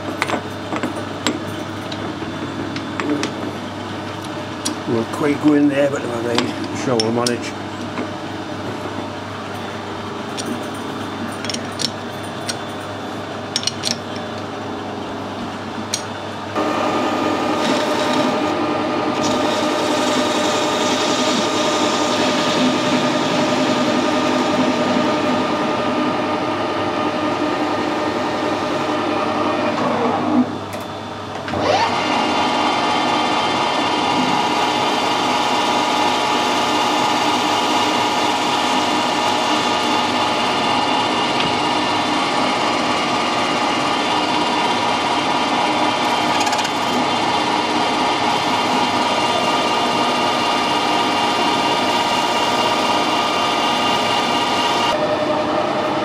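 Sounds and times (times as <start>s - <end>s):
metal lathe motor and gear whine: 0.0s - 56.0s.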